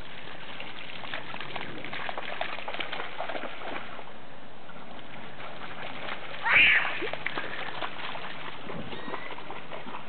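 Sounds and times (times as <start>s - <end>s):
dogs splashing through shallow water: 0.0s - 10.0s.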